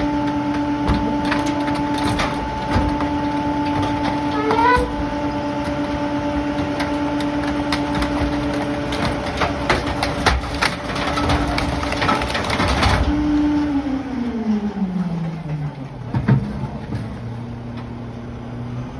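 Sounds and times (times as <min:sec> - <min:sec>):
debris cracking and snapping: 0:00.0 - 0:17.2
garbage truck engine running: 0:00.0 - 0:18.9.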